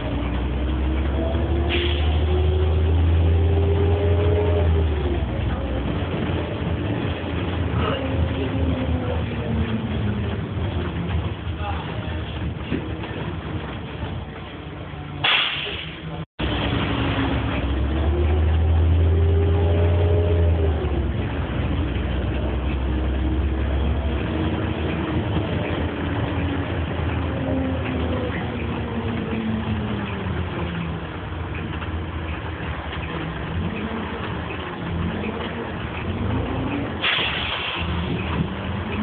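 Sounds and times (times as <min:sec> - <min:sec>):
bus diesel engine pulling: 0:00.0 - 0:39.0.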